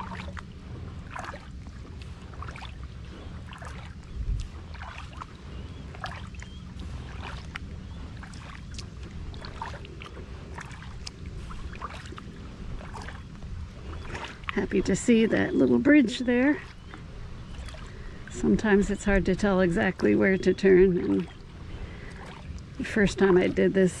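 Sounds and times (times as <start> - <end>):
paddle splashing in water: 0.0 - 24.0
steady low rumble: 0.0 - 24.0
water dripping: 3.5 - 5.3, 5.9 - 23.7.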